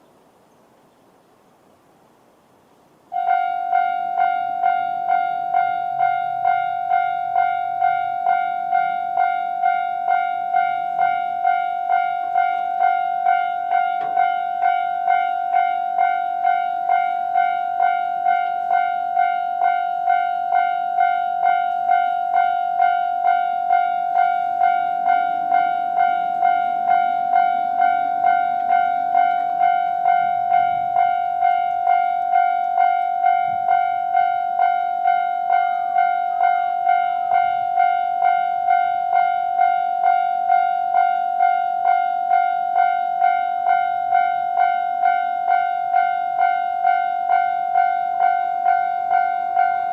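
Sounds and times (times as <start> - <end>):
electric train rumbling: 1.5 - 49.9
level crossing alarm ringing: 3.1 - 49.9.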